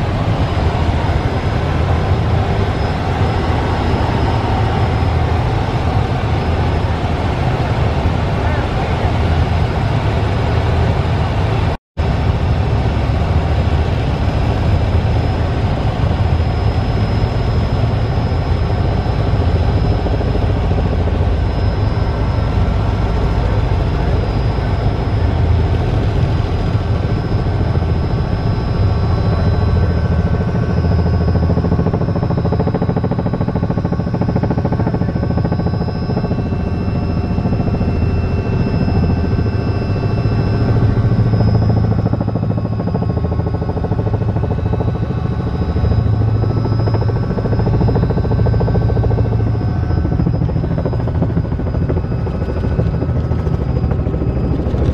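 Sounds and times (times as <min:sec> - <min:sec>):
helicopter rotor rumble: 0:00.0 - 0:54.9
high turbine whine: 0:00.0 - 0:54.9.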